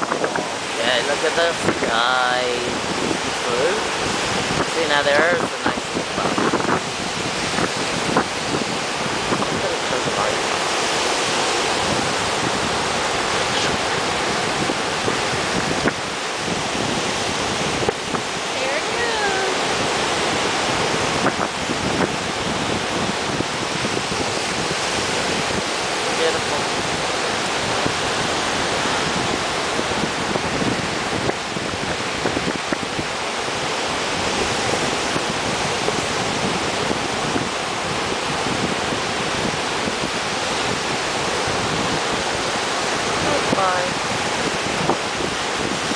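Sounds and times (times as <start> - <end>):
ocean surf breaking: 0.0 - 45.9
wind on microphone: 0.0 - 45.9.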